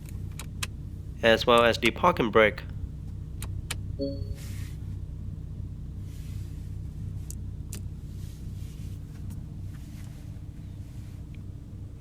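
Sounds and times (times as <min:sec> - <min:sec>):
engine idling hum in cabin: 0:00.0 - 0:12.0.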